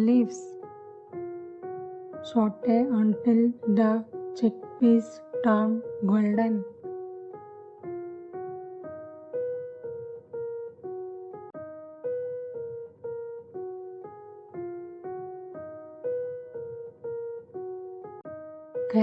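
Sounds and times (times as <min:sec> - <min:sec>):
electric piano melody: 0:00.0 - 0:19.0.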